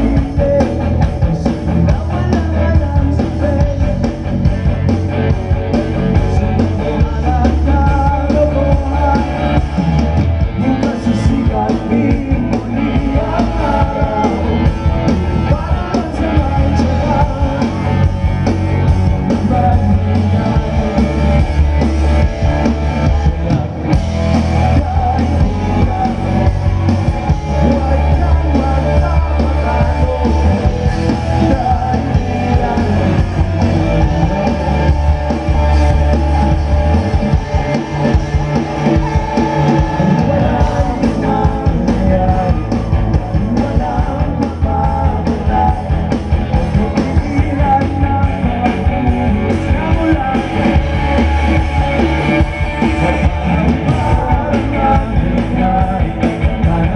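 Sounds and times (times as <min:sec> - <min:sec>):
drums: 0:00.0 - 0:56.9
guitars: 0:00.0 - 0:56.9
person singing: 0:05.8 - 0:56.9.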